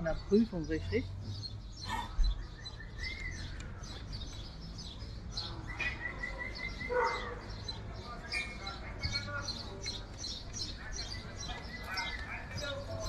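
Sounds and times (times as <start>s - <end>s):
swallows twittering: 0.0s - 13.0s.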